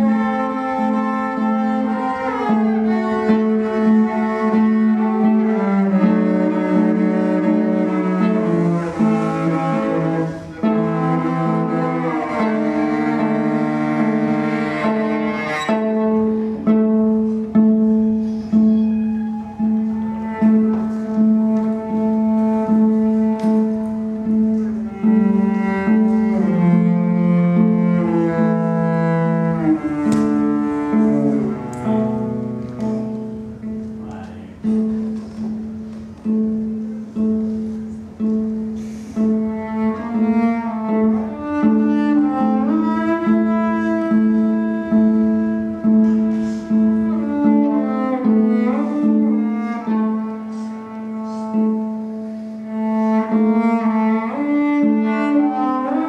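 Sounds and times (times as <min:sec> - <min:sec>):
bowed cello melody: 0:00.0 - 0:56.0.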